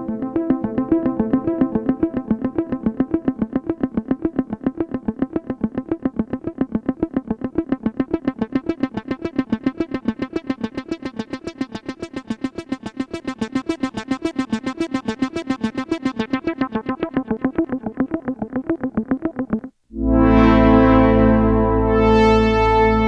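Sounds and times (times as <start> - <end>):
synthesizer plucked sequence: 0.0 - 23.0.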